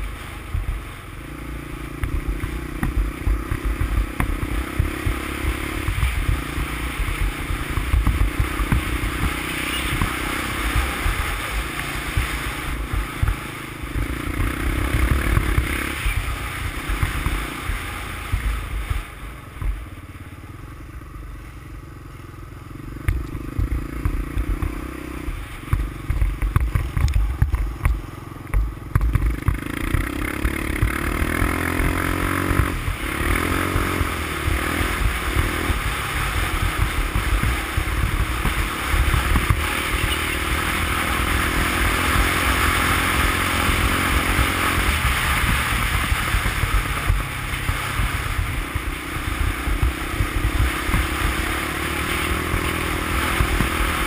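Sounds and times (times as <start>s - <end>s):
four-stroke engine revving: 0.0s - 19.2s, 21.9s - 54.0s.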